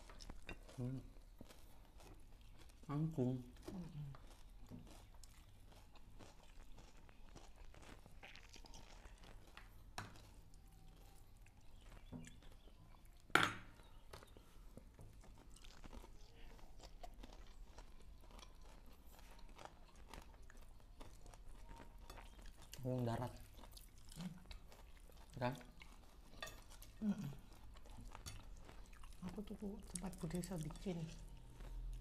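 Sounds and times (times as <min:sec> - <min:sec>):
people chewing and crunching food: 0:00.0 - 0:32.0.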